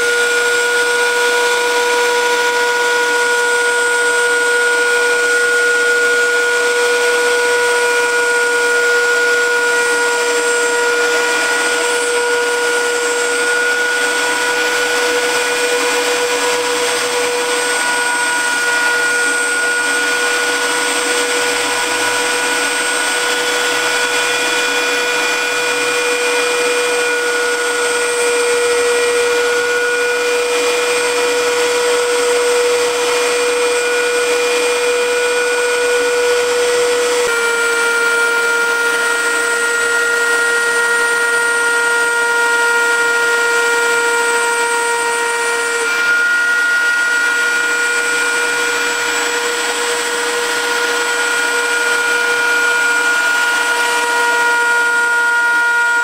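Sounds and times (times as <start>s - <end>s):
router spindle whining: 0.0s - 56.0s.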